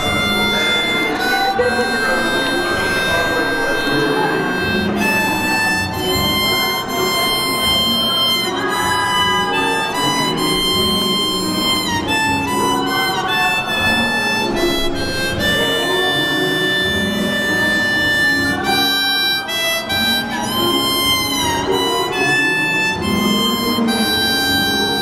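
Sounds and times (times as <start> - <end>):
harmonica playing slow tune: 0.0 - 25.0.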